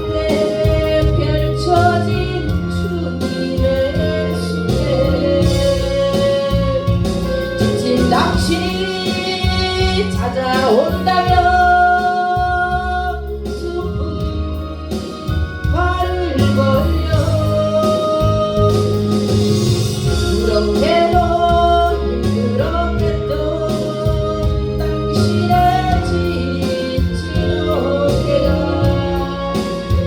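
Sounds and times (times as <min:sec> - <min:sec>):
instrumental backing: 0:00.0 - 0:30.0
person singing a hymn: 0:00.0 - 0:30.0.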